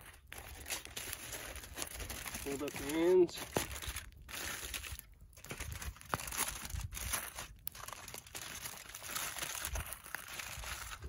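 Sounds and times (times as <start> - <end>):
aluminum foil crinkling: 0.0 - 11.0.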